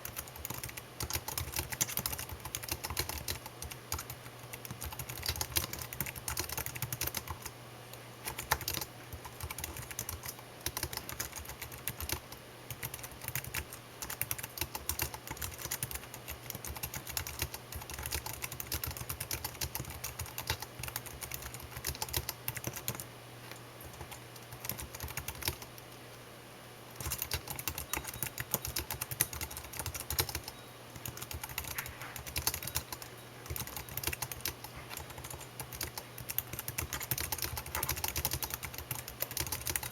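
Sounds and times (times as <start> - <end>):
computer keyboard typing: 0.0 - 7.5, 8.2 - 25.8, 27.0 - 39.9.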